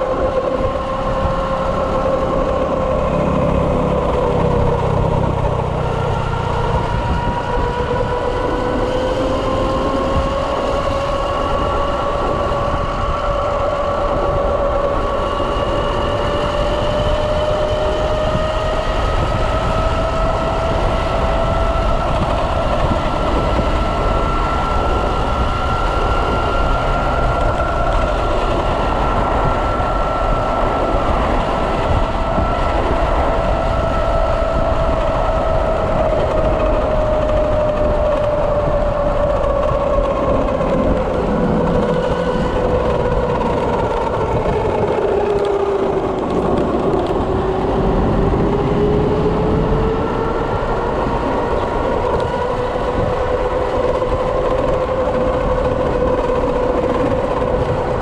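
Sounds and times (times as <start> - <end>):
electric motor whining: 0.0 - 58.0
wind and road noise: 0.0 - 58.0.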